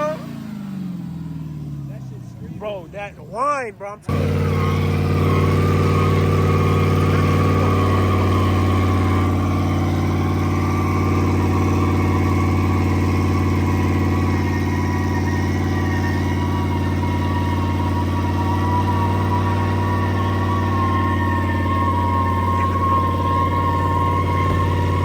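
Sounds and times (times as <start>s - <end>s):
car engine idling: 0.0s - 25.0s
thin steady whine: 4.0s - 25.0s.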